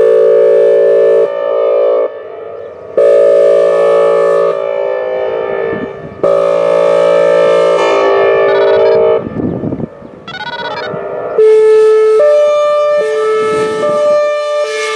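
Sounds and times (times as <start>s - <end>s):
siren air horn blasts: 0.0s - 14.9s.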